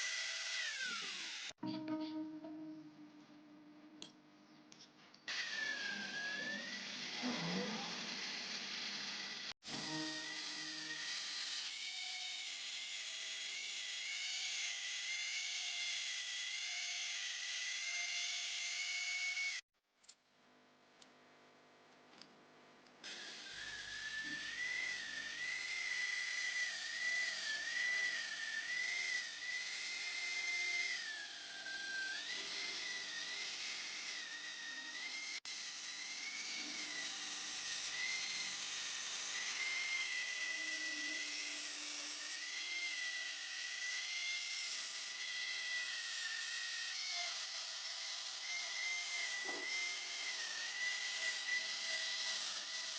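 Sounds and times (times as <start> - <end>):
electric grinder on steel: 0.0 - 2.3, 5.3 - 19.6, 23.0 - 52.9.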